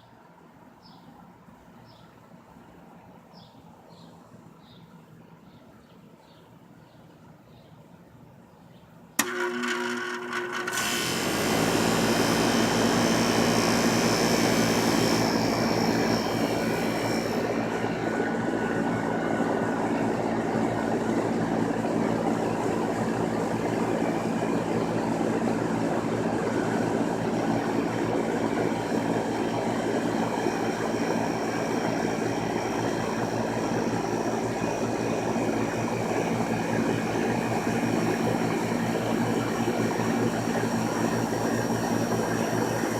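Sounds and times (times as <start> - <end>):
air conditioner hum: 0.0 - 42.9.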